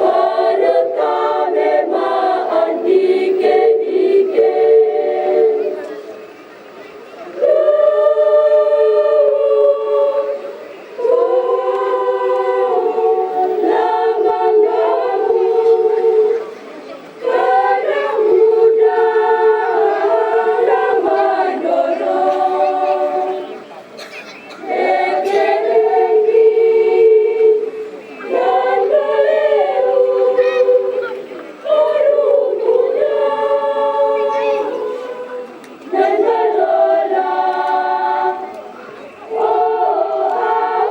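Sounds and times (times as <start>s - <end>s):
choir singing held chords: 0.0s - 40.9s.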